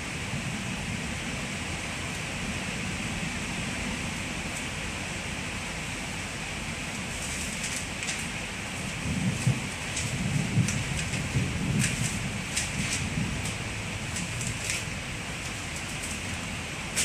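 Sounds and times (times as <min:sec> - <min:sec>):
constant hiss: 0:00.0 - 0:17.0
train wheels rumbling on track: 0:00.0 - 0:17.0.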